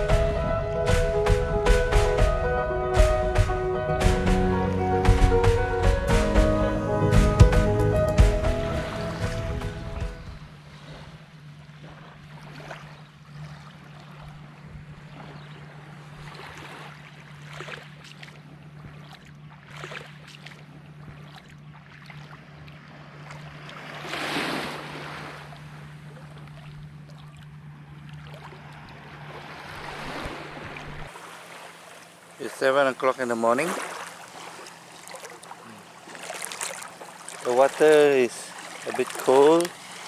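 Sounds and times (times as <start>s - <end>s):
steady low hum: 0.0s - 40.0s
sea water lapping at shore: 5.1s - 40.0s.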